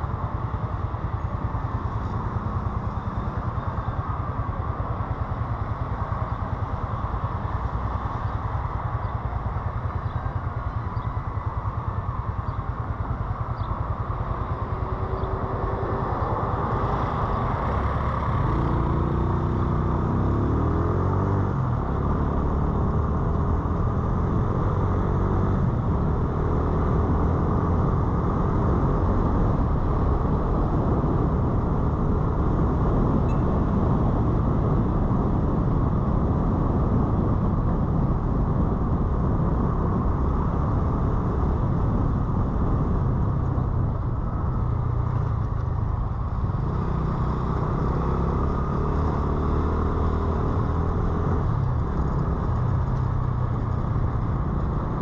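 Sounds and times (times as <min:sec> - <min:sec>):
road and traffic noise: 0:00.0 - 0:55.0.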